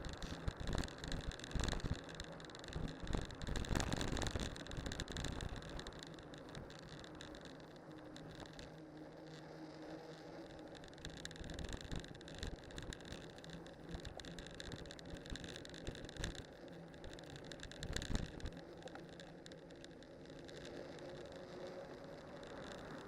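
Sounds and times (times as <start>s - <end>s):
bike tyres rolling over snow: 0.0s - 23.0s.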